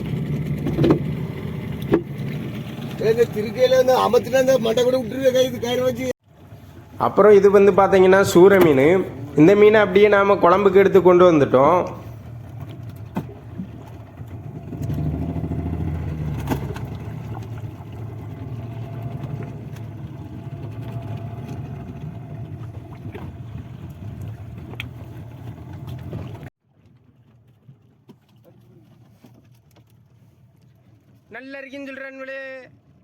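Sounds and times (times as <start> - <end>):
boat engine humming: 0.0 - 26.5.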